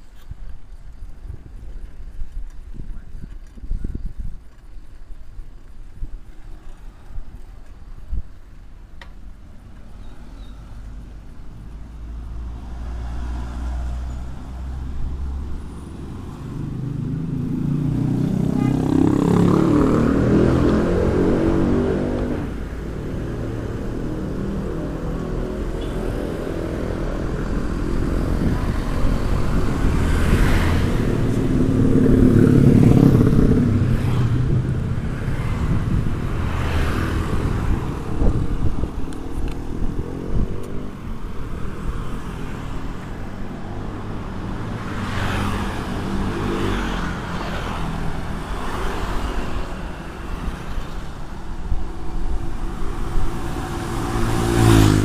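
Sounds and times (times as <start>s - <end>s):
motor vehicles passing by: 9.2s - 55.0s.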